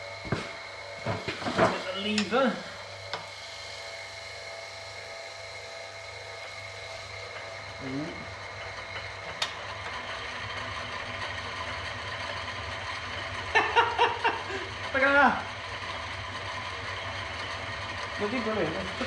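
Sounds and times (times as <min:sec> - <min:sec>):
electric motor driving lathe: 0:00.0 - 0:19.0.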